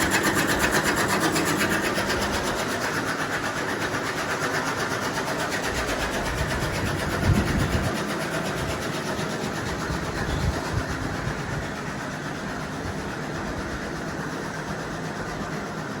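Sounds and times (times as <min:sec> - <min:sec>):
machine running: 0:00.0 - 0:16.0.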